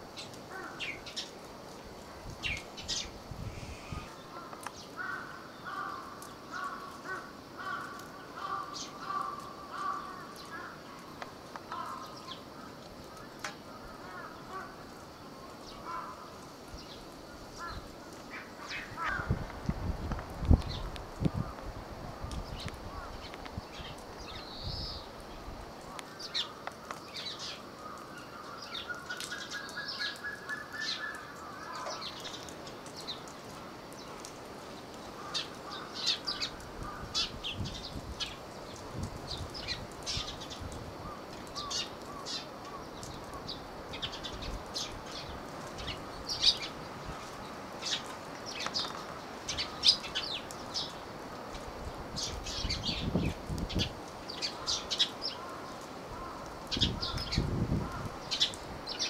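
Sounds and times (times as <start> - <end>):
small birds chirping: 2.3 - 19.4, 22.3 - 59.0.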